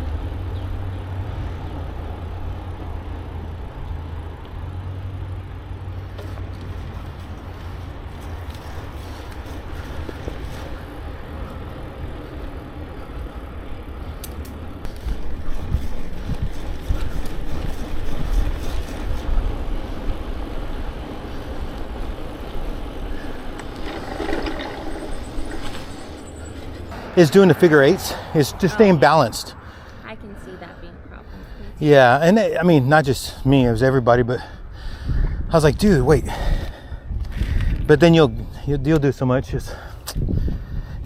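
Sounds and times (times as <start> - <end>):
bicycle tyre and road noise: 0.0 - 41.0
wind buffeting microphone: 6.7 - 32.3, 32.9 - 41.0.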